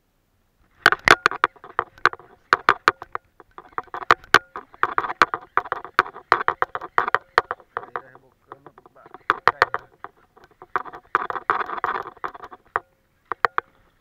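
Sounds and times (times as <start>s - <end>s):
fishing reel clicks and knocks: 0.8s - 13.8s.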